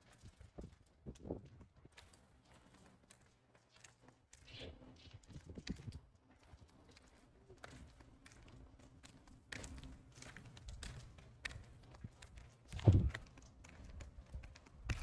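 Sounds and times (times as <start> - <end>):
footsteps of people walking: 0.0 - 15.0.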